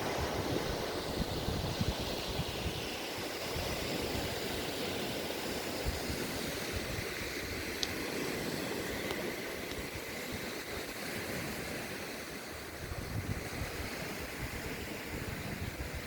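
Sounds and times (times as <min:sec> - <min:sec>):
wind buffeting microphone: 0:00.0 - 0:12.0, 0:12.6 - 0:16.0
sea waves washing onto beach: 0:00.0 - 0:16.0.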